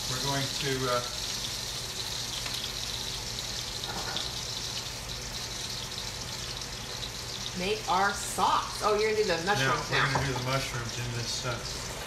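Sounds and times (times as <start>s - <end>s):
grease sizzling in a skillet: 0.0s - 12.0s.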